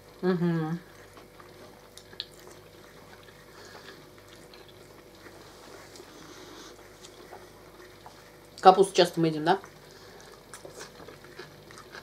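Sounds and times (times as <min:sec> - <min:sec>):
chewing: 0:00.8 - 0:12.0.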